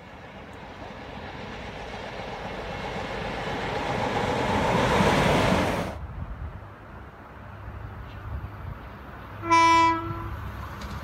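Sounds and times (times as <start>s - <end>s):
diesel locomotive engine approaching: 0.0s - 11.0s.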